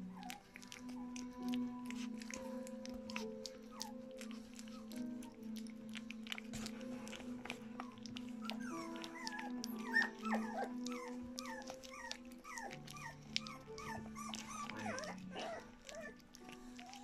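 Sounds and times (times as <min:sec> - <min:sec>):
puppies whimpering: 0:00.0 - 0:17.0
puppy lapping porridge: 0:00.0 - 0:17.0
television hum: 0:00.0 - 0:17.0.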